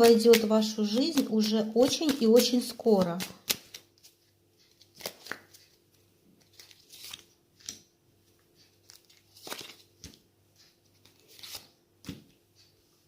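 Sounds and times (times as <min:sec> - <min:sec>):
cards being shuffled: 0:00.0 - 0:07.8, 0:08.6 - 0:12.3.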